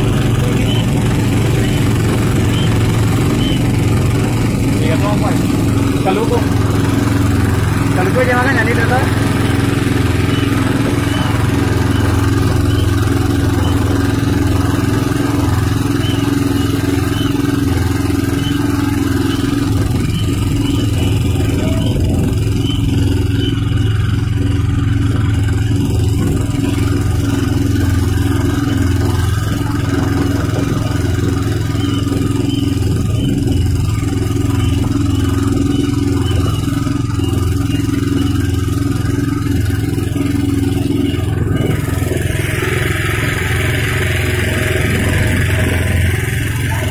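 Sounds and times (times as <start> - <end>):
small boat engine droning: 0.0 - 46.9.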